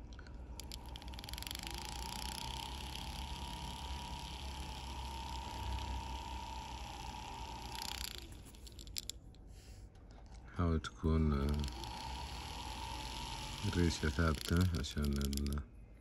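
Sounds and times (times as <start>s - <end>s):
rotary tool whining: 0.0s - 10.5s, 11.2s - 15.7s.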